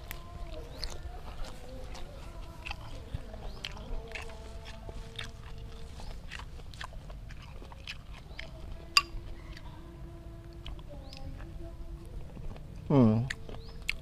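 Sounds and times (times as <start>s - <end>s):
close-up chewing: 0.0s - 14.0s.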